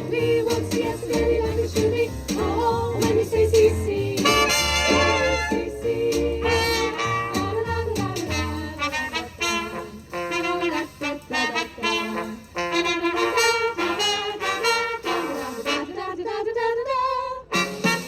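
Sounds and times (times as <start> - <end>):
brass swing music: 0.0 - 16.3, 17.4 - 18.0.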